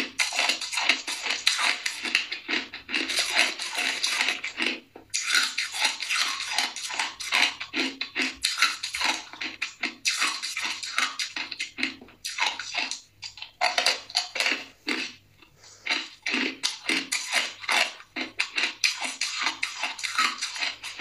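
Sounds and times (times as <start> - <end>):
ice crunching being chewed: 0.0 - 21.0.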